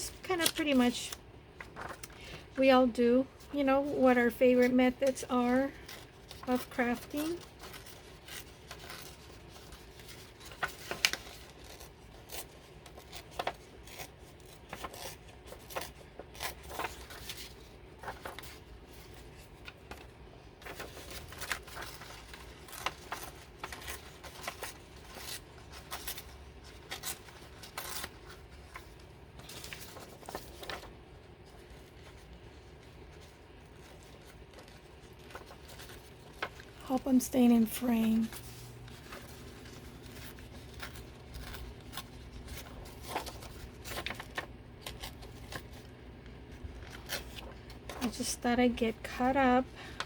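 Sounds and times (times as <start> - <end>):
paper rustling: 0.0 - 50.0.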